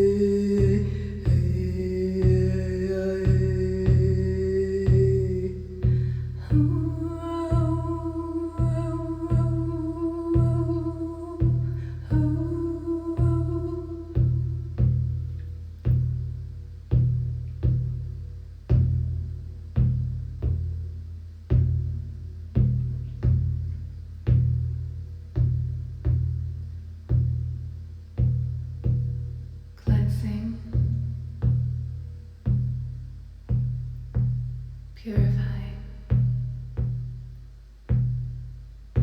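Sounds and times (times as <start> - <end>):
frame drum beaten in deep pulse: 0.0 - 39.0.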